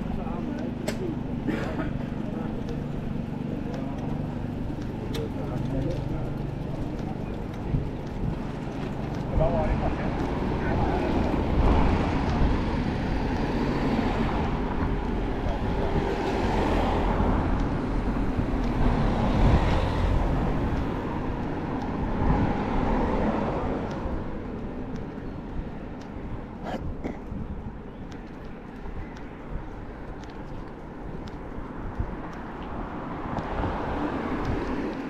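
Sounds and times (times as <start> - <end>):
motor vehicles passing: 0.0 - 35.0.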